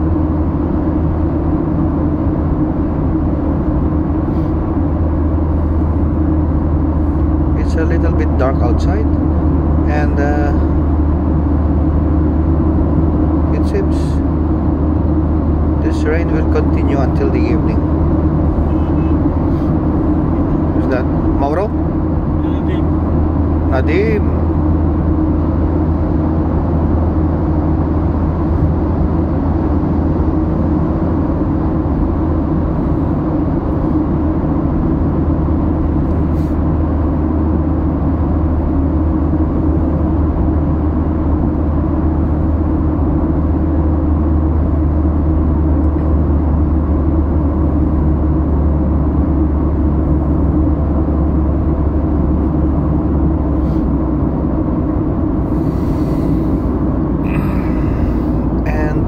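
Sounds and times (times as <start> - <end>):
car interior road and engine noise: 0.0 - 59.0.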